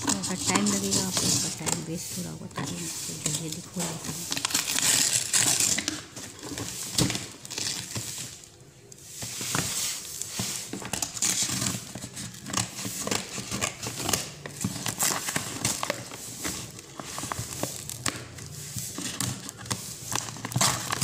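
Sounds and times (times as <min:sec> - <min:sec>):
paper tearing: 0:00.0 - 0:08.4, 0:09.1 - 0:21.0
packing tape peeling: 0:02.6 - 0:21.0.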